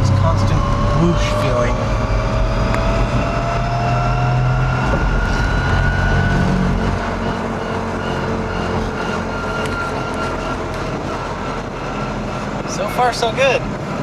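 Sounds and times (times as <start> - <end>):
electric motor whine: 0.0 - 14.0
road and tyre rumble: 0.0 - 14.0.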